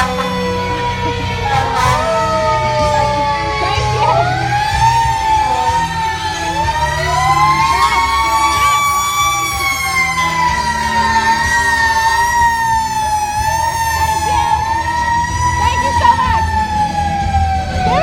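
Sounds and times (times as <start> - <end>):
fire truck siren wailing: 0.0 - 18.0
low engine rumble: 0.0 - 18.0.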